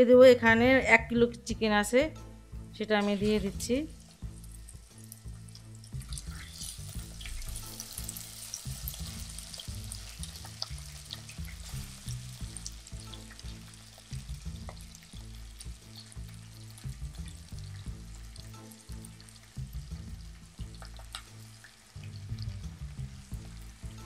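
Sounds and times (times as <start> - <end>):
background music with bass: 0.0 - 24.0
chicken sizzling in oil: 3.0 - 24.0.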